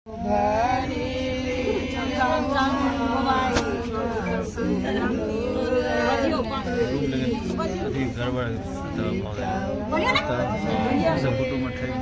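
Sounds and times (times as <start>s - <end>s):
steady low hum: 0.1s - 12.0s
voices singing without instruments: 0.1s - 12.0s.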